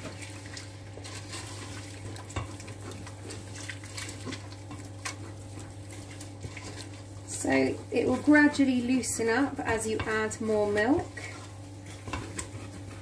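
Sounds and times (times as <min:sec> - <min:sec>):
wooden spoon scraping saucepan: 0:00.0 - 0:13.0.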